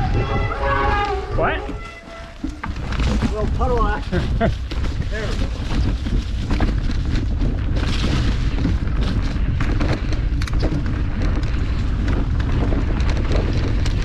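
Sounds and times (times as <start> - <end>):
clicks and rattles from bike: 0.0 - 14.0
wind buffeting microphone: 0.0 - 14.0.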